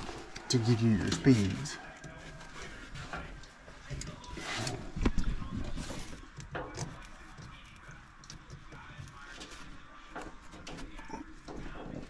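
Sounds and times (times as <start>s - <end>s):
wires clicking and rustling: 0.0s - 12.0s.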